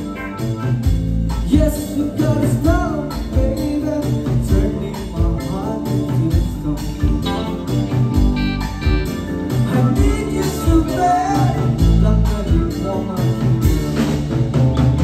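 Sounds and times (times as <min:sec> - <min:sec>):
drum kit beat: 0:00.0 - 0:15.0
electric bass: 0:00.0 - 0:15.0
electric guitar: 0:00.0 - 0:15.0
keyboard: 0:00.0 - 0:15.0.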